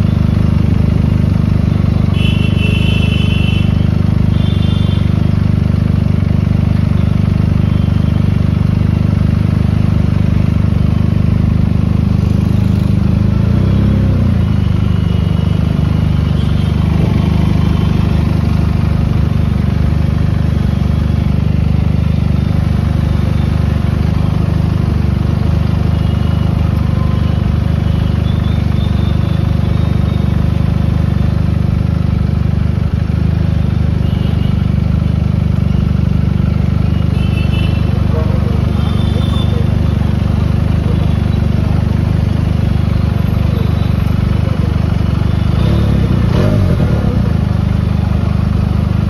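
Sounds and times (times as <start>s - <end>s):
motorcycle engine idling: 0.0s - 49.0s
scooter and car traffic: 0.0s - 49.0s.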